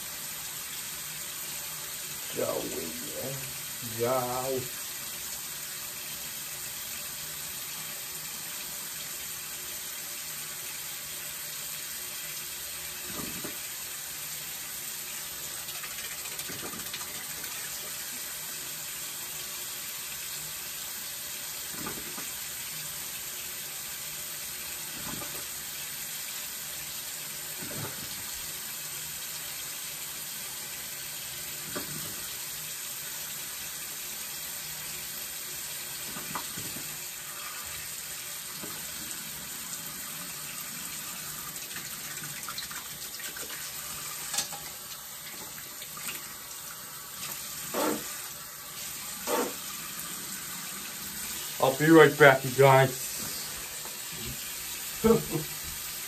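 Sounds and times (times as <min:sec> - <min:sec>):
tap water running: 0:00.0 - 0:56.0.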